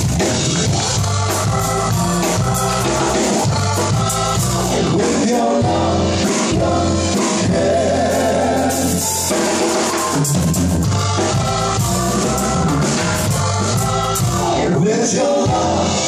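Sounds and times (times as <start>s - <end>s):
drum kit playing: 0.0s - 16.0s
electric keyboard: 0.0s - 16.0s
person singing: 0.6s - 9.2s, 11.4s - 16.0s.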